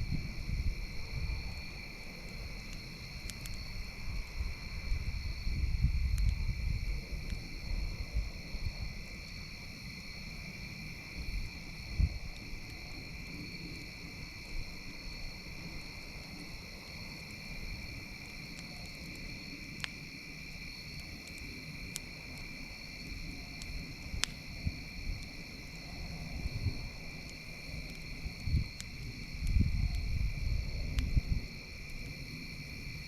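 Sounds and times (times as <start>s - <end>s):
insects chorus: 0.0s - 33.0s
campfire crackling and popping: 0.1s - 33.0s.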